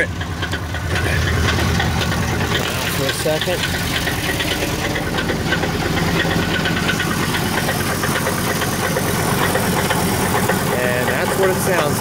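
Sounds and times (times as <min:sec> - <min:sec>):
engine idling with knocking: 0:00.0 - 0:12.0.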